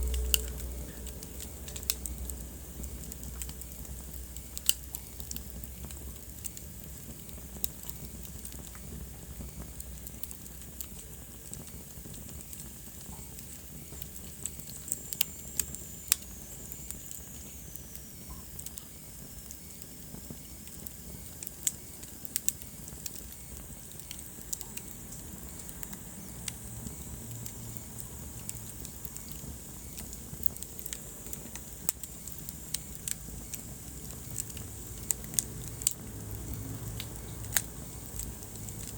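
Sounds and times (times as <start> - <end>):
low rumble and hiss of fire: 0.0 - 38.9
wood fire crackling: 0.0 - 38.9.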